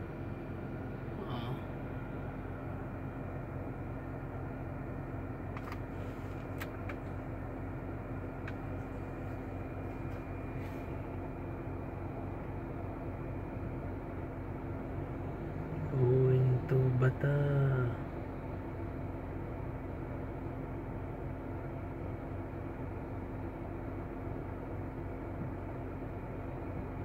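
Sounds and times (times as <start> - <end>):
car engine idling in cabin: 0.0 - 27.0.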